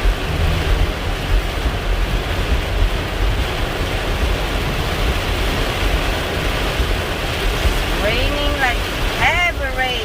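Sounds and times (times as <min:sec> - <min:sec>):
car and tyres rumbling: 0:00.0 - 0:10.0
heavy rain on a car: 0:00.0 - 0:10.0.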